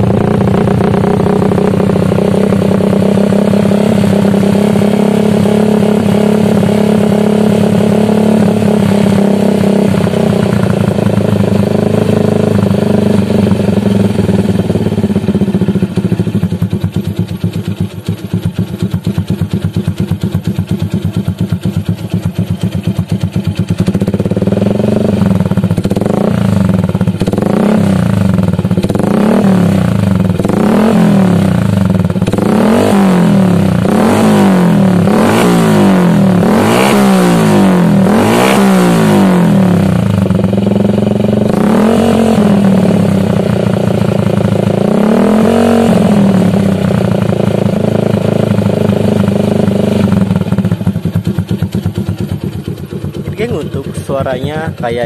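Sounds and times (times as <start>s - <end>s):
motorcycle engine revving and idling: 0.0s - 55.0s.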